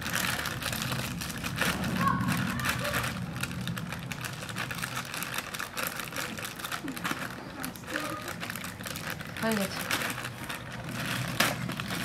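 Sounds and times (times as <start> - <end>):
plastic packet crinkling: 0.0 - 12.0
steady low hum: 0.0 - 12.0.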